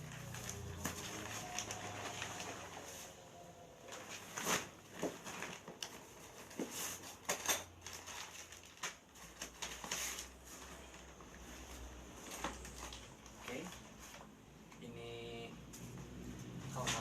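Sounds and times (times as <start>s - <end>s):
rustling of packaging: 0.0s - 14.4s.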